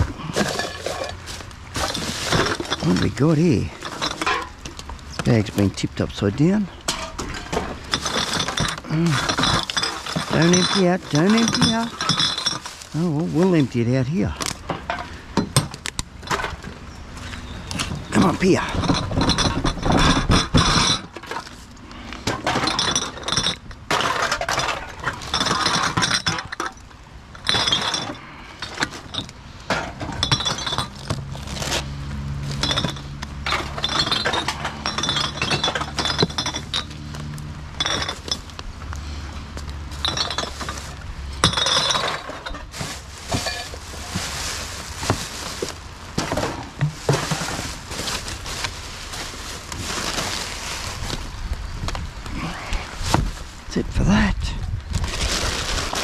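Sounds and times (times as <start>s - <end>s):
glass bottles clinking: 0.0s - 16.6s, 17.2s - 21.6s, 22.2s - 31.3s, 32.4s - 38.6s, 39.8s - 48.5s
plastic bags rustling: 0.0s - 39.0s, 39.6s - 56.0s.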